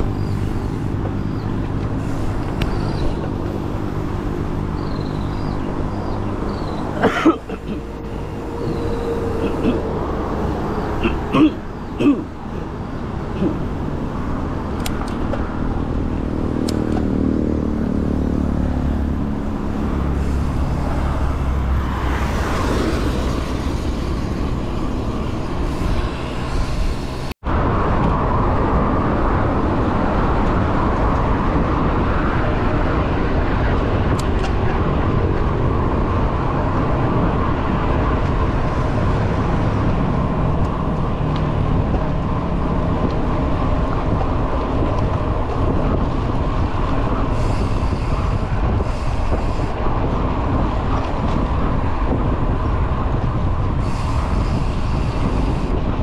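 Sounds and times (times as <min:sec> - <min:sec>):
road noise: 0:00.0 - 0:56.0
vehicle engine: 0:00.0 - 0:56.0.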